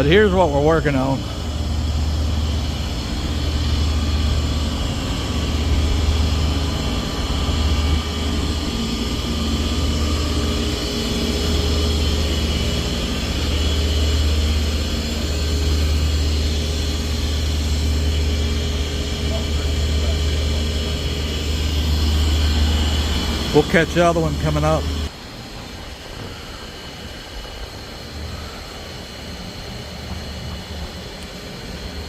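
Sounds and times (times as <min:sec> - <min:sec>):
faint high whine: 0:00.0 - 0:32.0
heavy machinery drone: 0:00.0 - 0:32.0.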